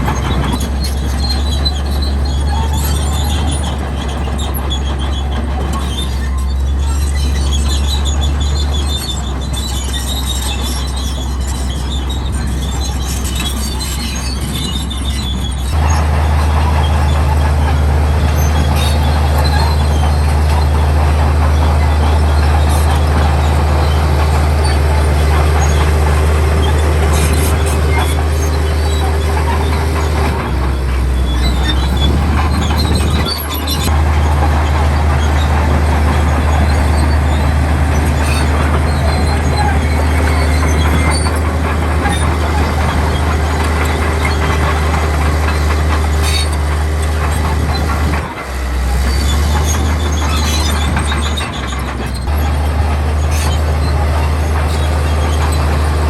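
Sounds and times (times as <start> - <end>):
bulldozer diesel engine drone: 0.0 - 56.0
steel tracks squealing and clanking: 0.0 - 56.0.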